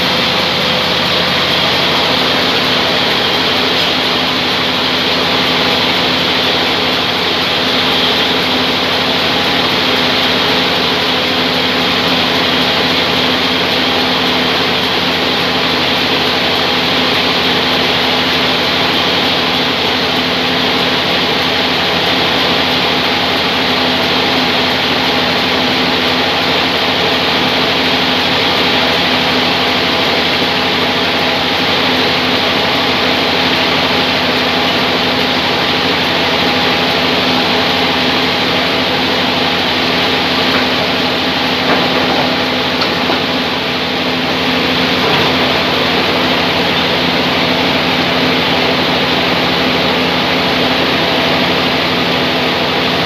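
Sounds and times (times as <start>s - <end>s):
band sawmill running: 0.0s - 53.0s.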